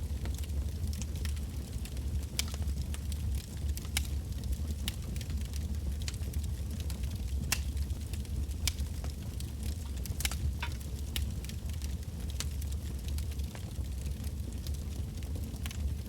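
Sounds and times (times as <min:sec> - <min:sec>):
burning logs crackling and popping: 0:00.0 - 0:16.0
low rumble of flame: 0:00.0 - 0:16.0.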